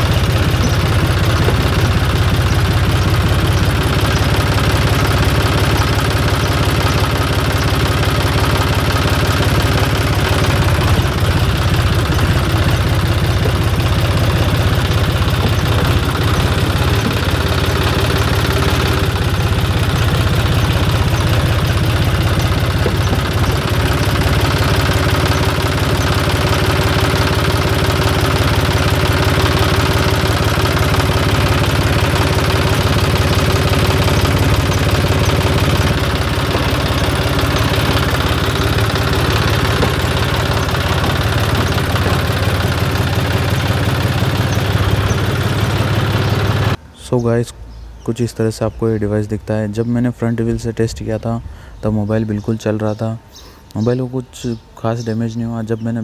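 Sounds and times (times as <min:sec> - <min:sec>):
tractor diesel engine idling: 0:00.0 - 0:47.4.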